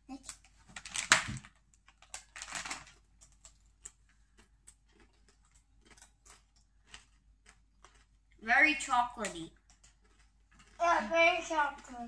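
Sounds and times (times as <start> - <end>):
chewing and crunching chip: 0.1 - 12.0.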